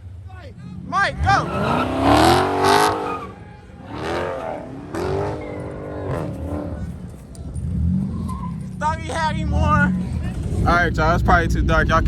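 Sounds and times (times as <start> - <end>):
car engine revving hard: 0.6 - 11.2.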